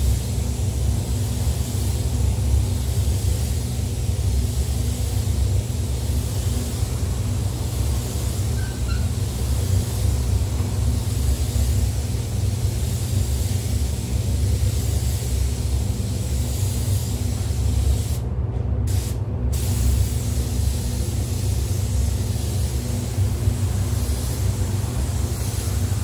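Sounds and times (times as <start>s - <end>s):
spray gun hissing: 0.0s - 18.2s, 18.9s - 26.0s.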